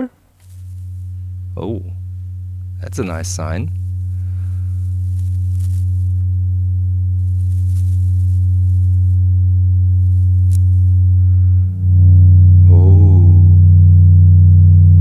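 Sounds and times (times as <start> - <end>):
steady low oscillator tone: 0.0 - 15.0.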